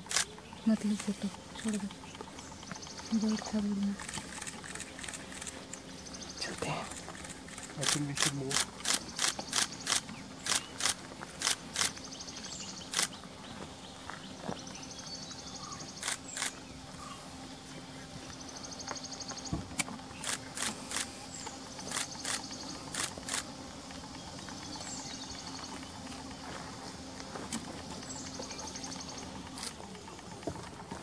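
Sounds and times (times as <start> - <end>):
insect trill: 0.0 - 13.2, 18.3 - 30.5.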